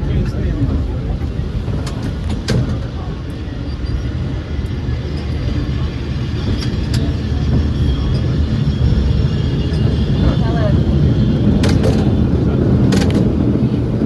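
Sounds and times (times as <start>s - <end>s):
cable car rumbling: 0.0s - 14.0s.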